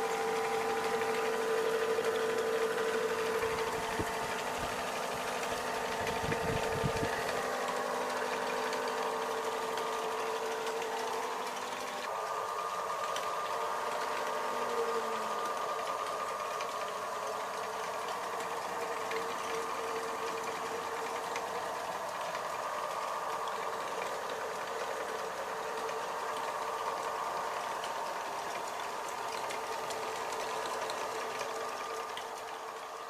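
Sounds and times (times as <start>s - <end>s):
generator whining: 0.0s - 33.0s.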